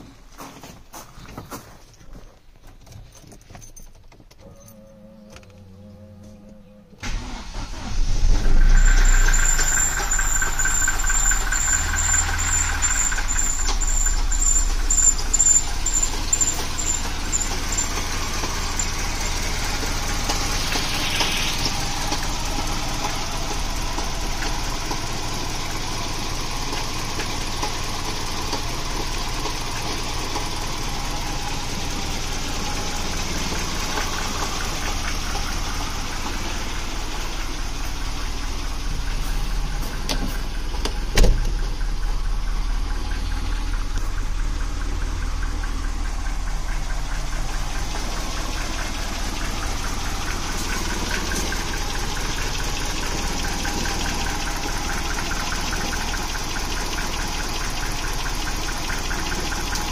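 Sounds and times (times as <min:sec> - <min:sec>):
car engine idling: 0:07.0 - 0:59.9.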